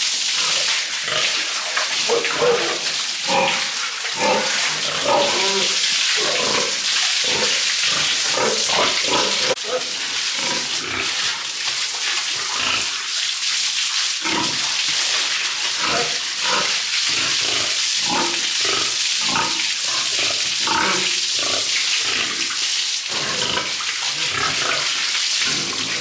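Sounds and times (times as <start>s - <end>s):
spraying water hiss: 0.0s - 26.0s
pigs grunting: 0.3s - 11.5s, 12.3s - 13.1s, 14.2s - 26.0s.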